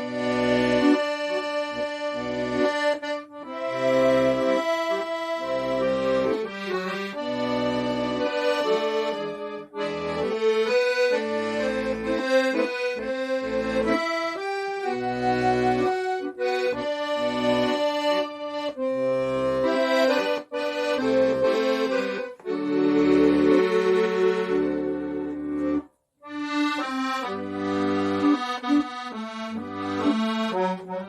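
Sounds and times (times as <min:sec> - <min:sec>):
accordion melody: 0:00.0 - 0:31.0.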